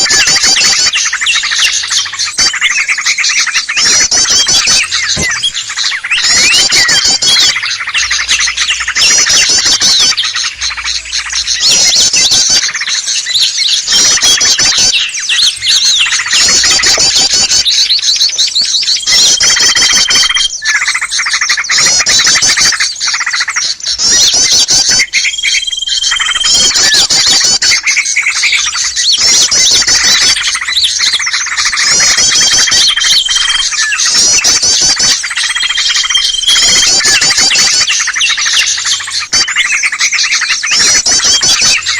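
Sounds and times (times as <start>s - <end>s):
fast repeated chirps: 0.0s - 41.9s
small birds chirping and squawking: 0.0s - 41.9s.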